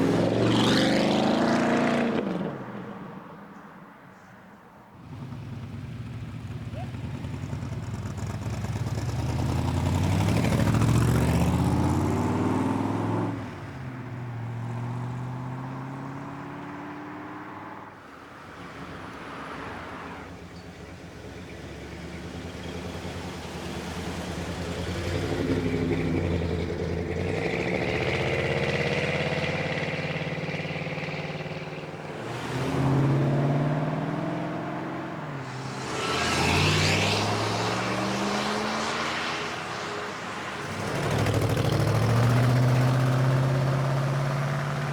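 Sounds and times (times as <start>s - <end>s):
cars accelerating away: 0.0s - 2.6s, 5.0s - 17.8s, 19.3s - 44.9s.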